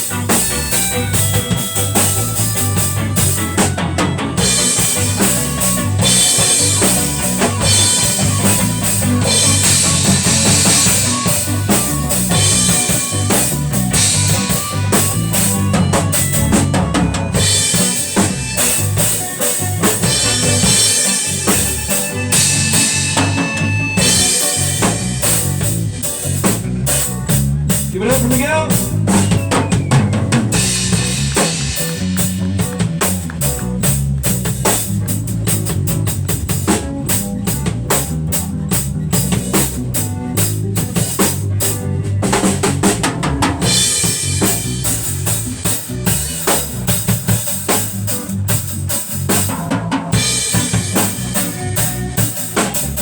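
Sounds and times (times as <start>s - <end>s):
drum-driven music: 0.0s - 53.0s.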